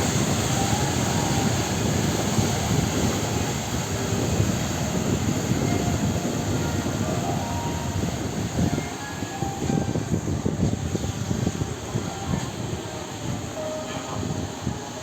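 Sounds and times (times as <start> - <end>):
motor ship rumbling: 0.0 - 15.0.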